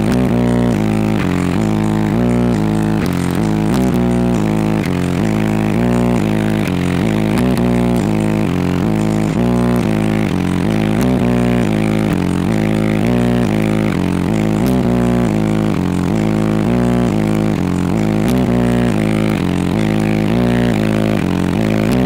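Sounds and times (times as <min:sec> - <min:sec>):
loud bass-heavy car audio music: 0:00.0 - 0:22.0.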